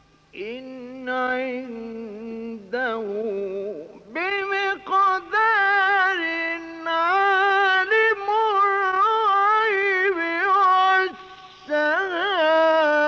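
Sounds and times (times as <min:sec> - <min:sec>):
man reciting melodically: 0:00.3 - 0:13.0.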